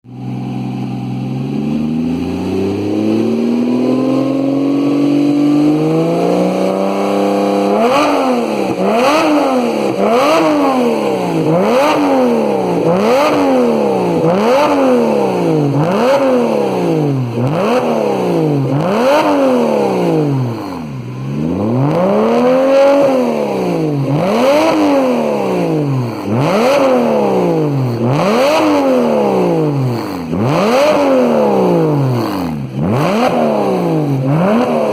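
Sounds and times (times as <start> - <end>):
sports car engine revving: 0.1 - 34.9.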